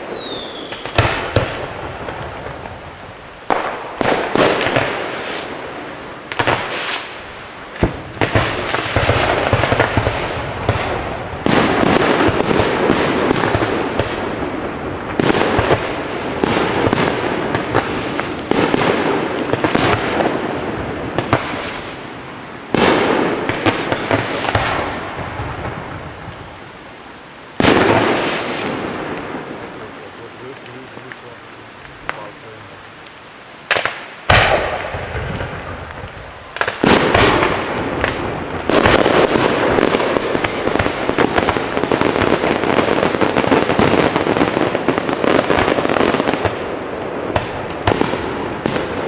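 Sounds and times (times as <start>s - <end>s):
fireworks bursting and crackling: 0.0s - 49.0s.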